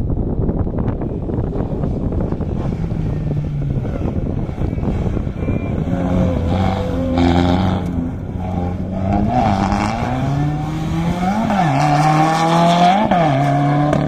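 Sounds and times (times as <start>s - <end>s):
rally car engine revving: 0.8s - 14.0s.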